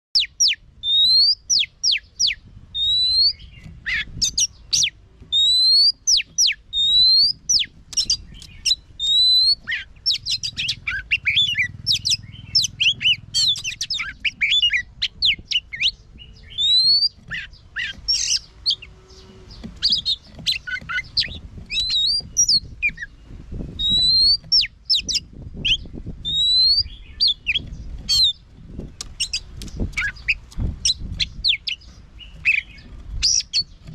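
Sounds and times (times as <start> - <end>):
bird singing whistled notes: 0.2 - 33.9.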